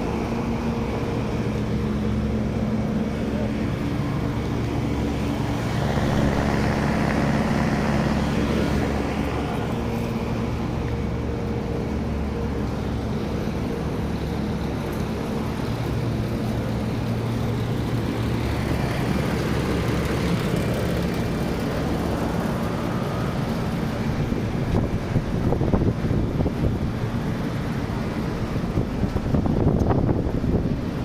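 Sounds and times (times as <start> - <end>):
air conditioning unit hum: 0.0 - 31.0.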